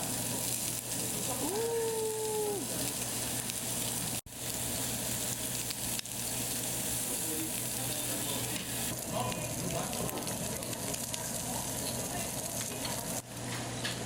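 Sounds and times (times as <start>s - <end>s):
food sizzling on a pan: 0.0s - 14.0s.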